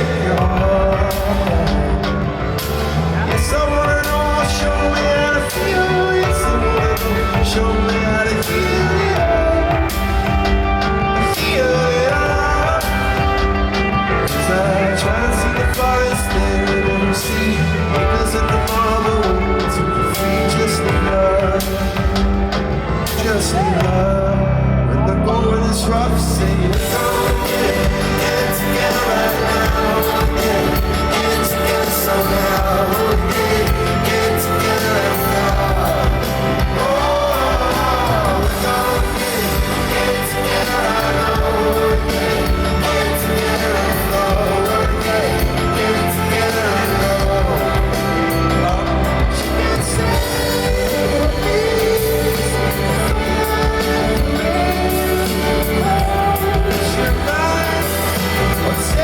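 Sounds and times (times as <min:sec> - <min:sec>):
live pop-rock band with singing: 0:00.0 - 0:59.0.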